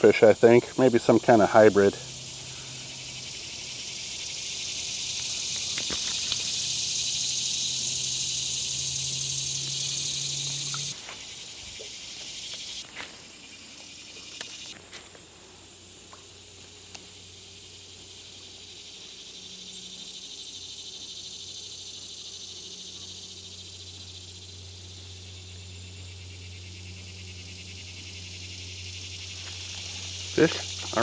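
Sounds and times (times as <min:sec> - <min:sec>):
high insect buzzing: 0:00.2 - 0:14.8, 0:15.7 - 0:31.0.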